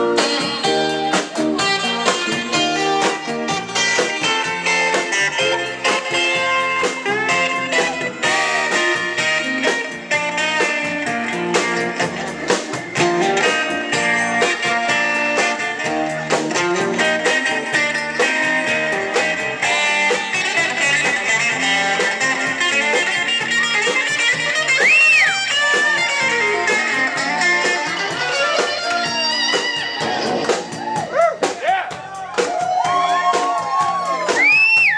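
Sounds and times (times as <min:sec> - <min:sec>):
electric guitar lead line: 0:00.0 - 0:31.1
bass: 0:00.0 - 0:34.9
drums: 0:00.0 - 0:34.9.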